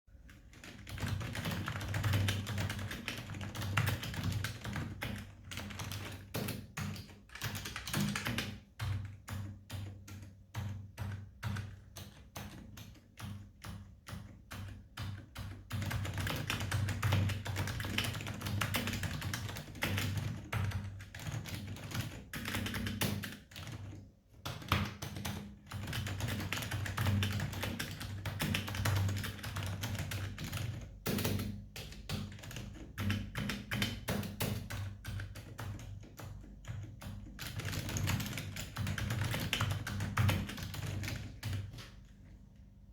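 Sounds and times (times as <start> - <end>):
mechanical keyboard typing: 0.2 - 42.1.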